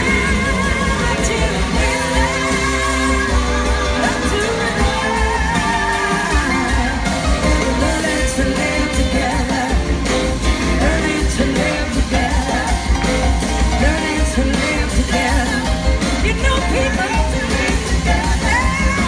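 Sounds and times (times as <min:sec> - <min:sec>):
live rock band playing: 0:00.0 - 0:19.0
wavering lead melody: 0:00.0 - 0:19.0.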